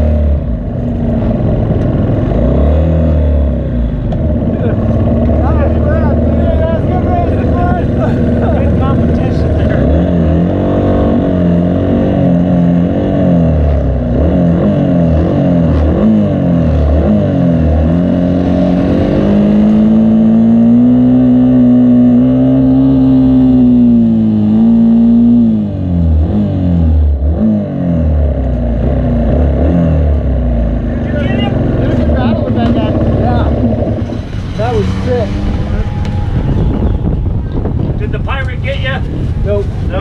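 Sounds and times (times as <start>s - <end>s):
racing engine revving: 0.0s - 40.0s.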